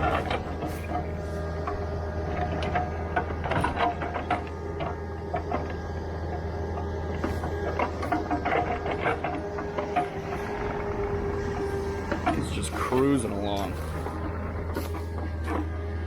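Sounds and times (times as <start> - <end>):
metallic clanks and rattles: 0.0 - 5.8, 7.1 - 15.7
diesel engine running: 0.0 - 16.0.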